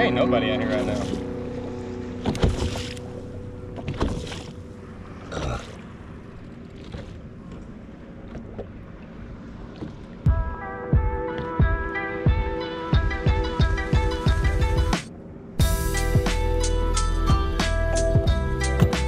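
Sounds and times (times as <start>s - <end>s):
water noise: 0.0s - 16.2s
boat engine hum: 0.0s - 19.0s
wind: 0.0s - 19.0s.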